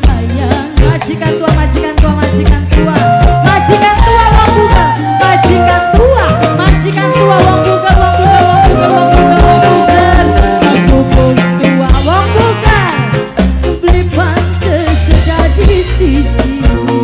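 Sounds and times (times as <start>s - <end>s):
live band music over pa: 0.0s - 17.0s.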